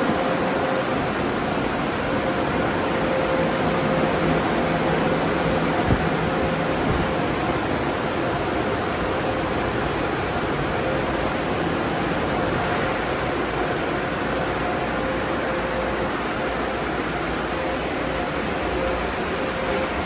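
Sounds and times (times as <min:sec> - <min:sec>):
faint steady whine: 0:00.0 - 0:20.0.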